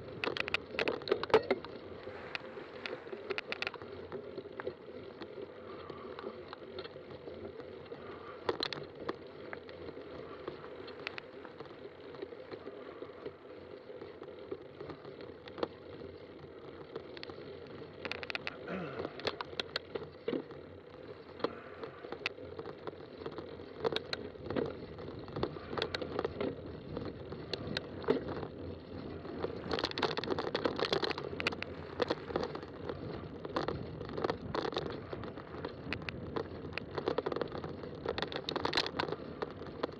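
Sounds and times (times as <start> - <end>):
bike tyre and wind noise: 0.0 - 39.9
sharp clicks and rattles: 0.0 - 39.9.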